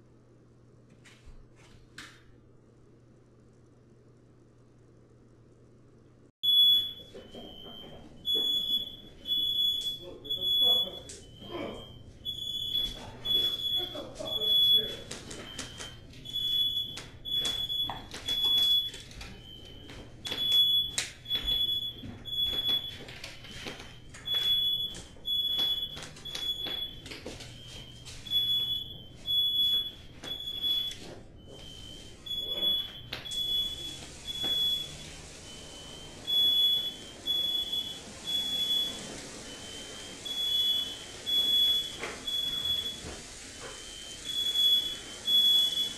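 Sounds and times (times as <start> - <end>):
second lower alarm beeping: 6.4 - 45.9
smoke alarm beeping: 6.4 - 45.9.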